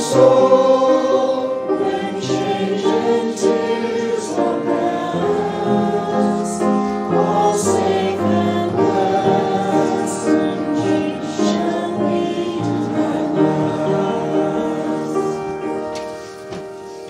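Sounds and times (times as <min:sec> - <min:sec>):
keyboard accompaniment: 0:00.0 - 0:17.0
voices singing a hymn: 0:00.0 - 0:17.0.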